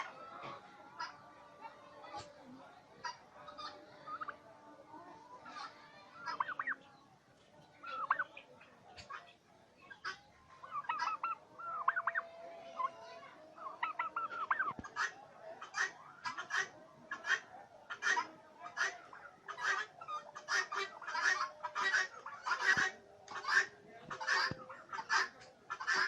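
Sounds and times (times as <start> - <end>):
turkeys gobbling: 0.0 - 2.3, 3.0 - 4.4, 5.3 - 6.9, 7.8 - 26.0.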